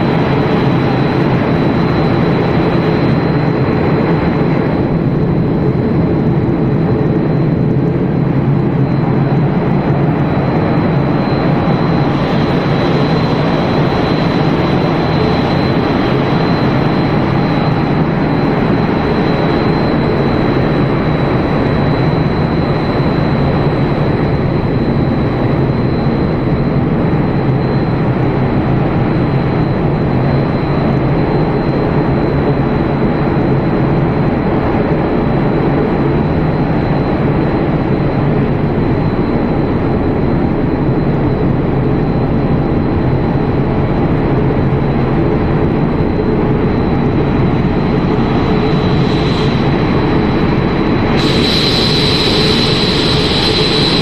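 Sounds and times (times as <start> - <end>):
machinery rush and hum: 0.0 - 54.0
thin high whine: 0.0 - 54.0.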